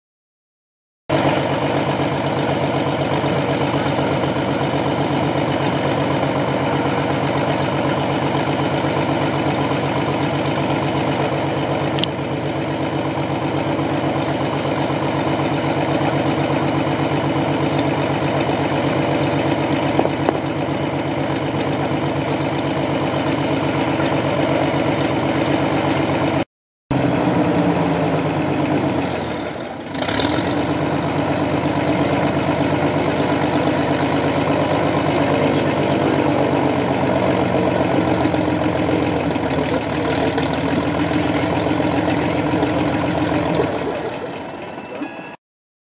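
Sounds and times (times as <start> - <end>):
plane engine idling: 1.1 - 44.8.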